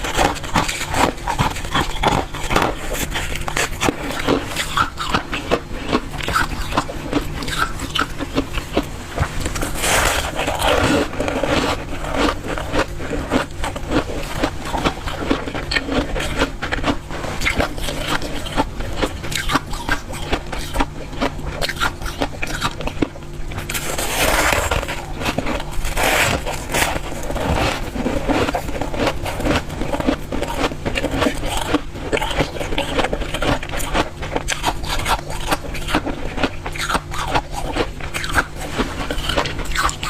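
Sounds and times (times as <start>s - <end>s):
frost ice crunching: 0.0s - 23.0s, 23.6s - 40.0s
steady low hum: 0.0s - 40.0s.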